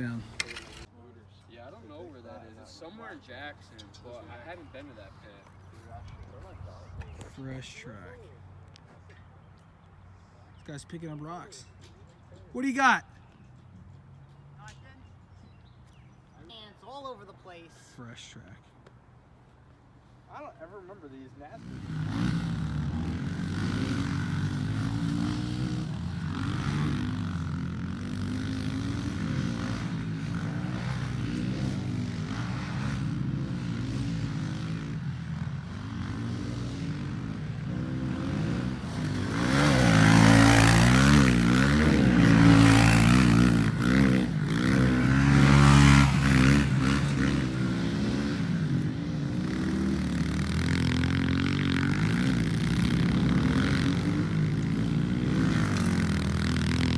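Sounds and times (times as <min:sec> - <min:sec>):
pit bike engines revving: 0:00.0 - 0:00.9, 0:01.5 - 0:17.0, 0:20.8 - 0:56.9.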